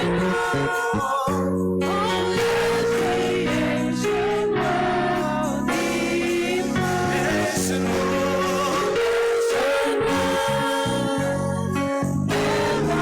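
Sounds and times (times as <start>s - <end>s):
gospel choir singing: 0.0s - 13.0s
sustained chords: 0.0s - 13.0s.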